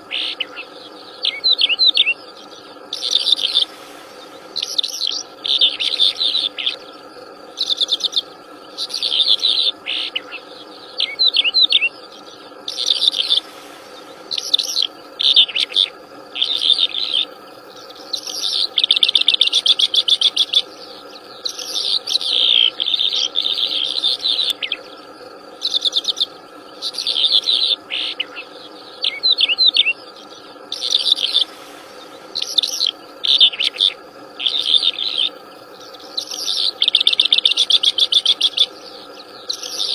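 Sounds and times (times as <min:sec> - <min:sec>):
faint background hum: 0:00.0 - 0:39.9
songbird chirps and trills: 0:00.0 - 0:39.9.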